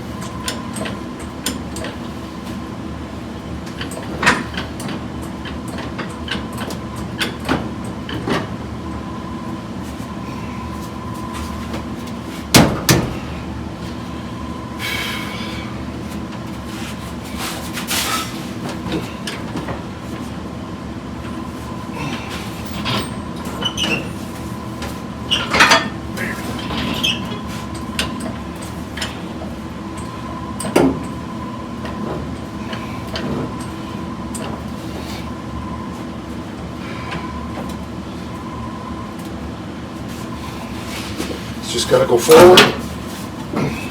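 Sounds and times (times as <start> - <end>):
steady hum: 8.7 - 43.9.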